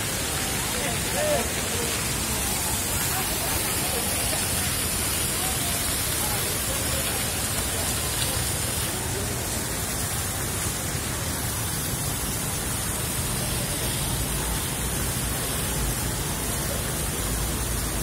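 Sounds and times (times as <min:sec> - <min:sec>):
rain on wet pavement: 0:00.0 - 0:18.0.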